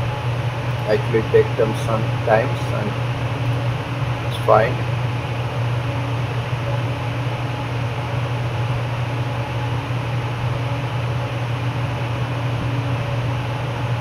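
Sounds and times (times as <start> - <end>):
fan humming and hissing: 0.0 - 14.0.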